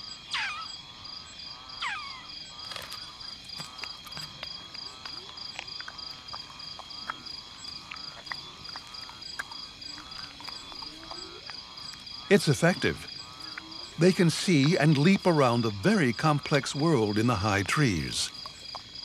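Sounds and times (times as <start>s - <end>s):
frogs calling: 0.0s - 19.0s
high insect trill: 0.0s - 19.0s
pulsing insect call: 0.0s - 19.0s.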